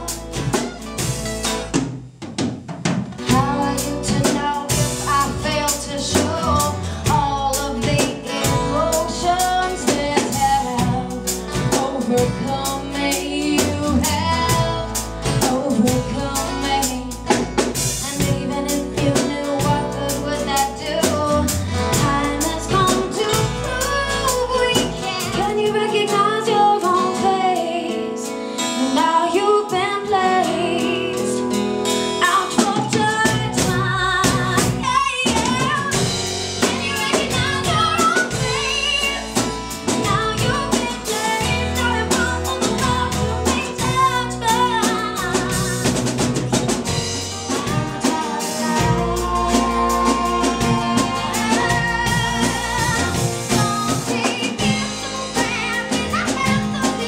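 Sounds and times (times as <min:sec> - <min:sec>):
woman singing: 0:00.0 - 0:00.7, 0:03.2 - 0:57.0
bass: 0:00.0 - 0:02.4, 0:03.0 - 0:57.0
acoustic guitar: 0:00.0 - 0:57.0
drum kit: 0:00.0 - 0:57.0.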